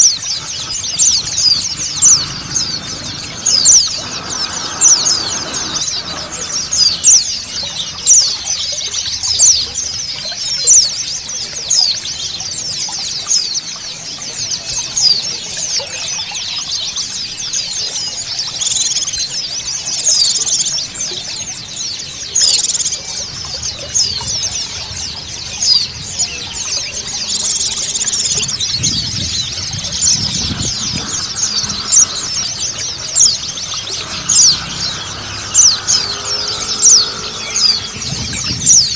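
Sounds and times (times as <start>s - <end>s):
birds twittering and chirping: 0.0s - 38.9s
flowing water: 0.0s - 38.9s.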